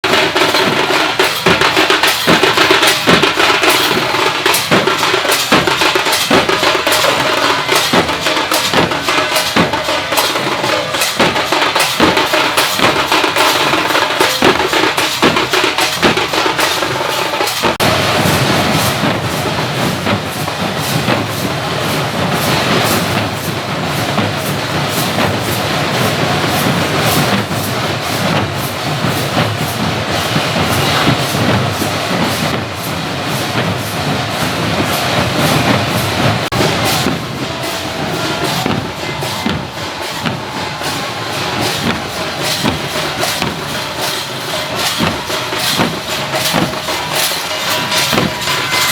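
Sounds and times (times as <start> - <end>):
rhythmic drumming: 0.0 - 48.9.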